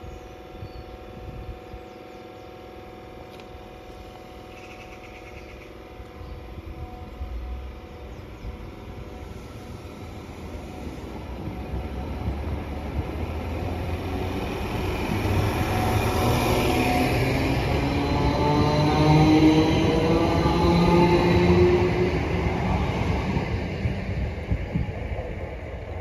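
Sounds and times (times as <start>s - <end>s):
electric train rumble: 0.0s - 26.0s
train wheel noise: 0.0s - 26.0s.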